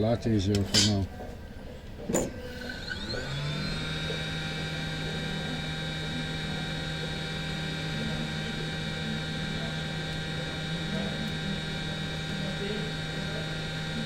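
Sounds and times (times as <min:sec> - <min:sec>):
hot-air gun fan whirring: 0:00.0 - 0:14.0.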